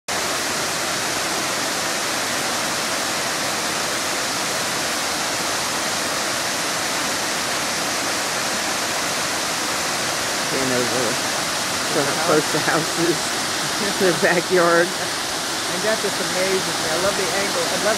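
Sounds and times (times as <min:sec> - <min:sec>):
waterfall rushing: 0:00.1 - 0:17.9.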